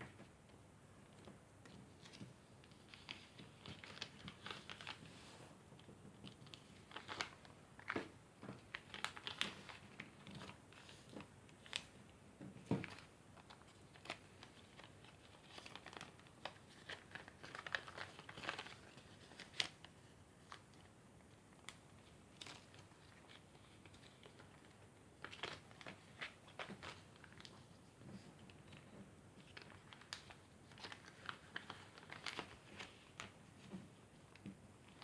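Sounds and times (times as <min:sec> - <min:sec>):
paper crinkling: 0:01.7 - 0:05.3, 0:06.2 - 0:11.9, 0:12.8 - 0:20.9, 0:21.5 - 0:35.0.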